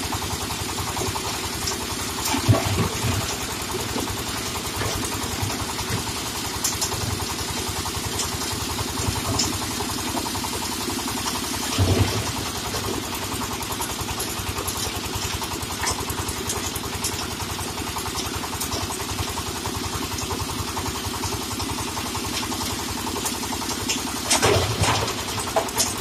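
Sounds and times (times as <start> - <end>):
engine running with even pulse: 0.0 - 26.0.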